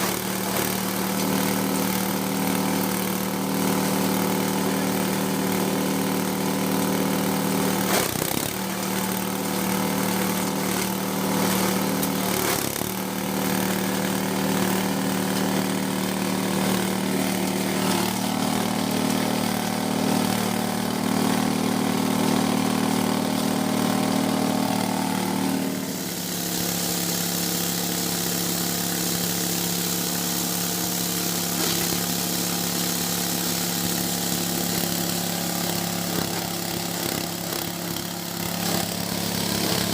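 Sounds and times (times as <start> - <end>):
grass chopper machine humming: 0.0 - 39.9.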